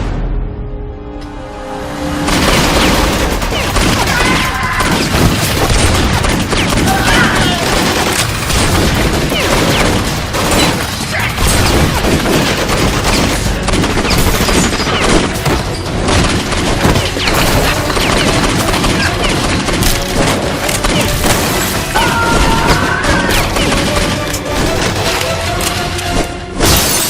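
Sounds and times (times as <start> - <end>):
background music: 0.0 - 27.0
gunfire and booms: 2.2 - 25.3.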